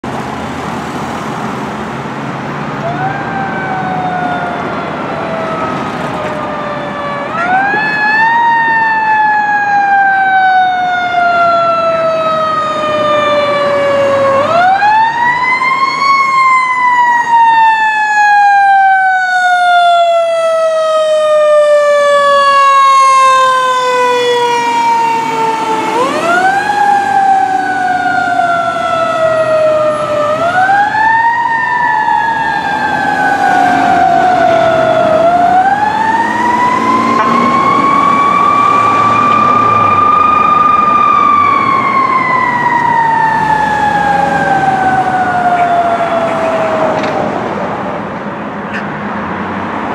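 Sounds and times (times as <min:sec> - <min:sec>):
fire truck siren wailing: 0:00.0 - 0:48.3.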